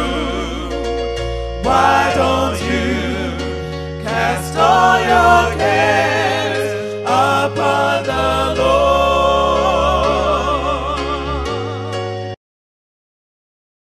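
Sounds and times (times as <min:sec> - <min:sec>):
bass line: 0:00.0 - 0:12.4
gospel singing voices: 0:00.0 - 0:12.4.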